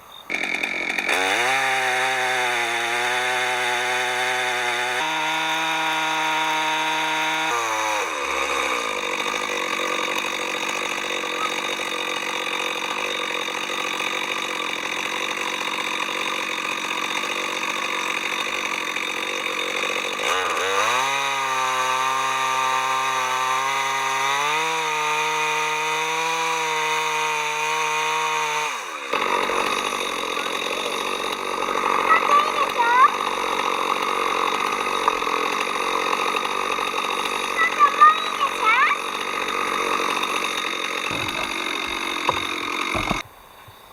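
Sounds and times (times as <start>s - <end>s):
chainsaw sawing wood: 0.0s - 43.9s.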